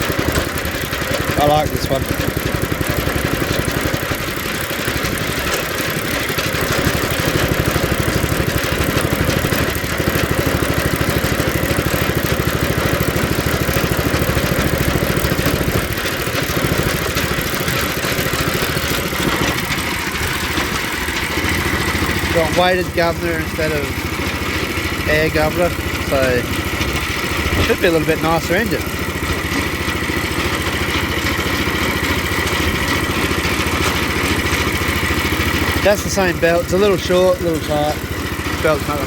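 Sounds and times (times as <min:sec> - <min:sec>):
small engine idling: 0:00.0 - 0:39.0.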